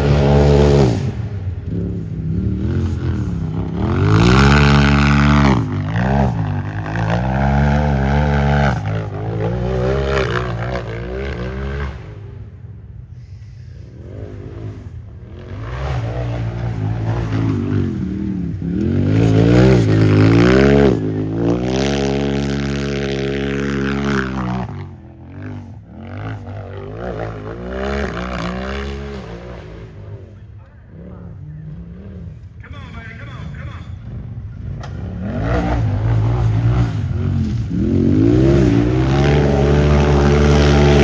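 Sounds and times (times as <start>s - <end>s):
race engine revving hard: 0.0s - 12.4s, 13.9s - 30.3s, 34.0s - 41.0s.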